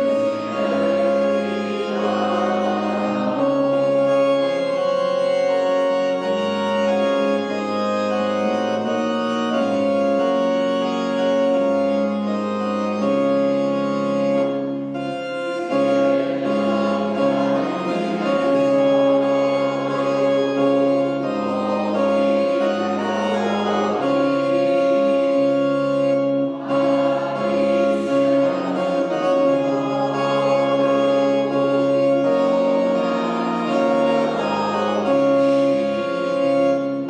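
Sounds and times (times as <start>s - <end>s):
church organ playing hymn chords: 0.0s - 37.0s.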